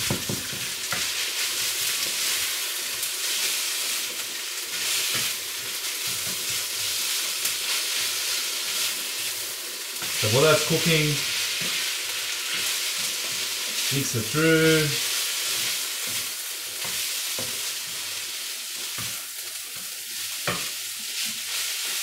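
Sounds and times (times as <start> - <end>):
rice sizzling in oil: 0.0 - 22.0.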